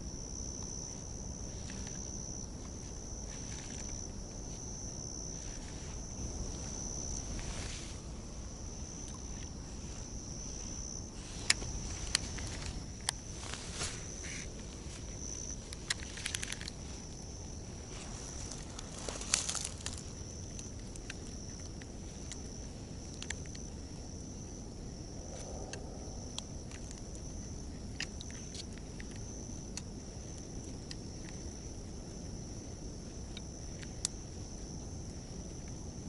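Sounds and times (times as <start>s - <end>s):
insects chirring: 0.0s - 36.0s
rustle: 0.0s - 36.0s.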